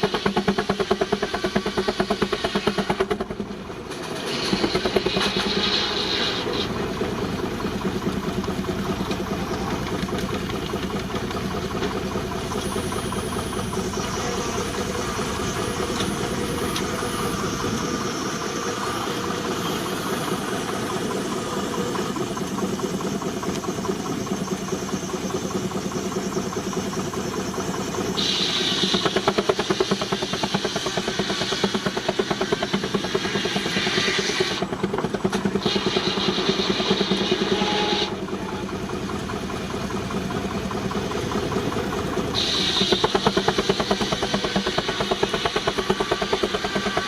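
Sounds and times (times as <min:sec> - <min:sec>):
steam hissing: 0:00.0 - 0:10.6, 0:11.2 - 0:47.0
steam traction engine running: 0:00.0 - 0:47.0.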